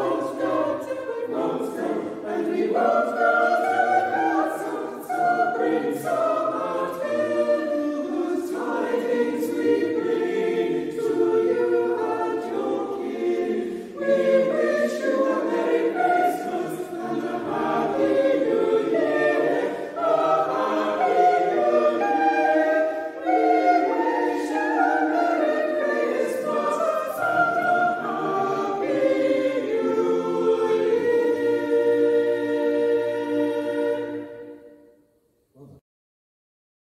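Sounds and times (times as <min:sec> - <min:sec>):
choir singing in harmony: 0:00.0 - 0:35.1.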